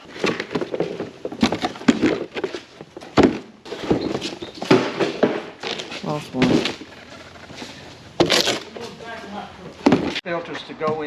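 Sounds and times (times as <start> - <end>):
air filters being handled: 0.0 - 11.0.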